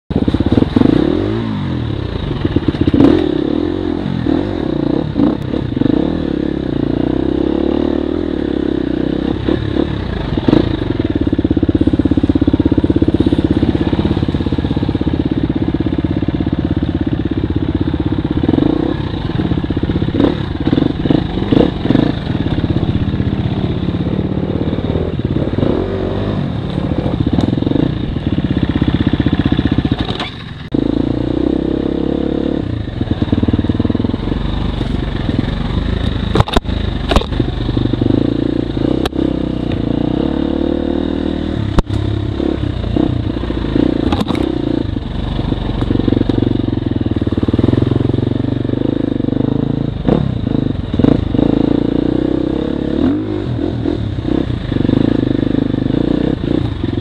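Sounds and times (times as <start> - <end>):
dirt bike engine revving: 0.1 - 57.0.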